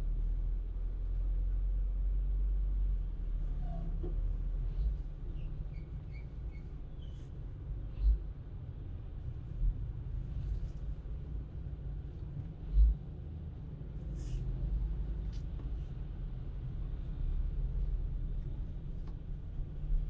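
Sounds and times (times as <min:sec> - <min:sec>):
car road rumble: 0:00.0 - 0:20.0.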